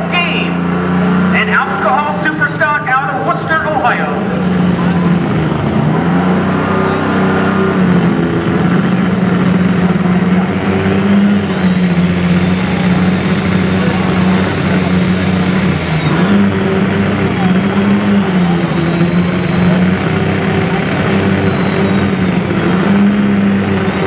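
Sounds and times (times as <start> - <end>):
high whine: 0.0 - 24.0
tractor engine at full throttle: 0.0 - 24.0.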